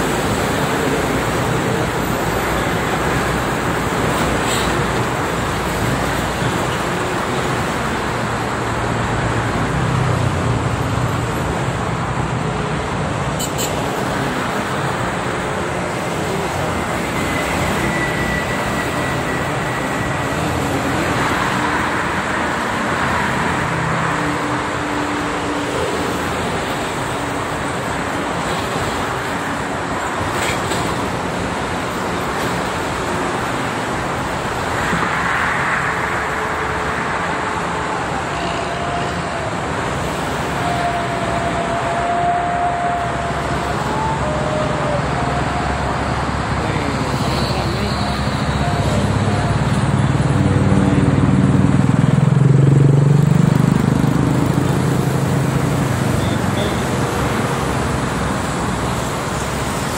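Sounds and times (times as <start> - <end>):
expressway traffic noise: 0.0 - 59.9.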